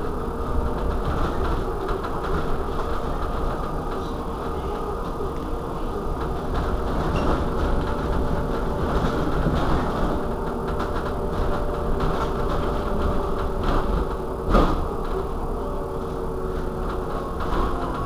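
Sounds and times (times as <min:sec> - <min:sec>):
electric bus humming: 0:00.0 - 0:18.0.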